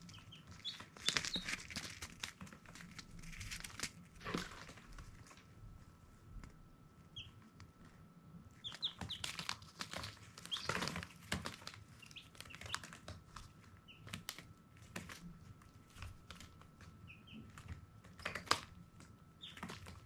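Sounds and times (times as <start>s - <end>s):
baby chicks peeping: 0.0s - 4.8s, 7.0s - 7.9s, 8.5s - 20.0s.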